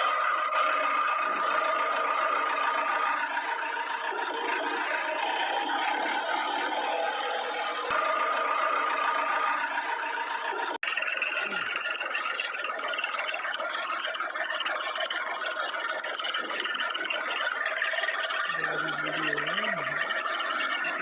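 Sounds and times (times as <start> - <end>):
heavy machinery engines running: 0.0 - 21.0.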